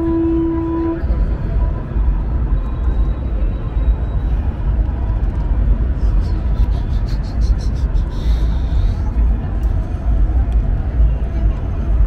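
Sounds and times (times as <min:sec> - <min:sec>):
heavy low street rumble: 0:00.0 - 0:12.0.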